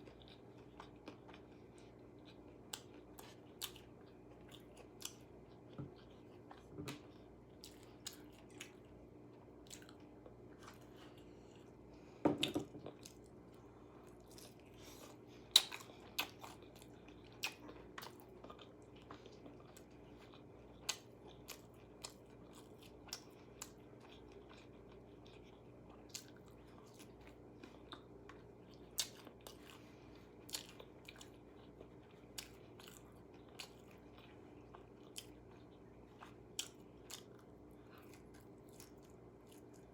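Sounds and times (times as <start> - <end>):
faint steady hum: 0.0 - 39.9
person chewing crunchy food: 0.0 - 39.9.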